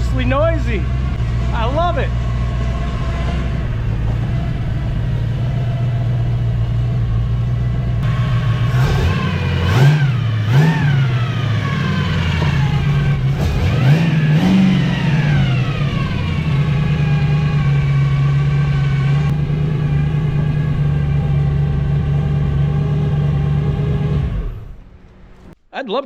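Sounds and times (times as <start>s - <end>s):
engine idling and revving: 0.0s - 25.6s
gear drive whine: 0.0s - 25.6s.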